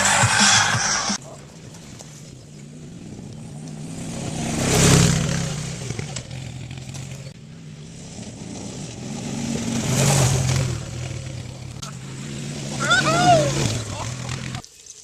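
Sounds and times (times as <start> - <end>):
vehicle engine passing by: 2.4 - 14.6.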